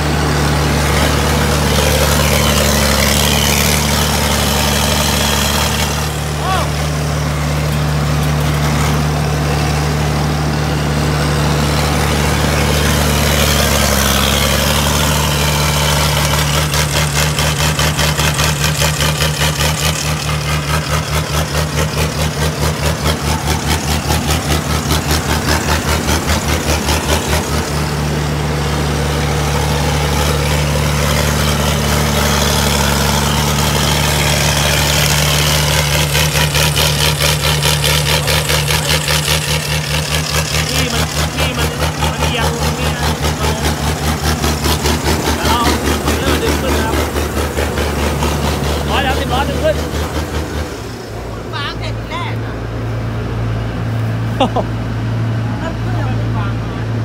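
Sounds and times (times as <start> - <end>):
rapid throbbing pulse: 0.0 - 51.9
diesel engine running hard: 0.0 - 57.0.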